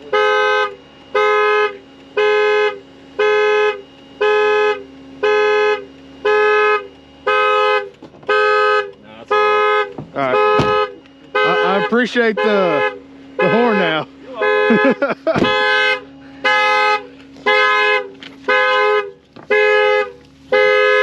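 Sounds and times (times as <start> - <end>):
car alarm dual-tone horn blasts: 0.0 - 21.0.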